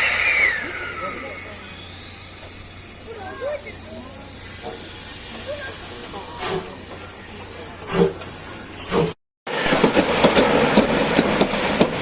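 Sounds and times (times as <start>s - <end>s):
steam locomotive hissing: 0.0s - 12.0s
steam locomotive puffs: 0.0s - 12.0s
train rattling on rails: 0.0s - 12.0s.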